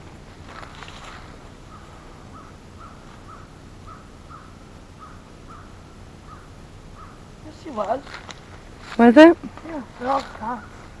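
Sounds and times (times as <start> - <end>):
bird calling: 0.0 - 8.4, 9.0 - 11.0
low steady background rumble: 0.0 - 11.0.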